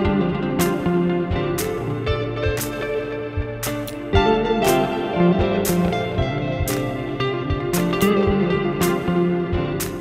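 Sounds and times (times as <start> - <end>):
guitar instrumental with drum beat: 0.0 - 10.0.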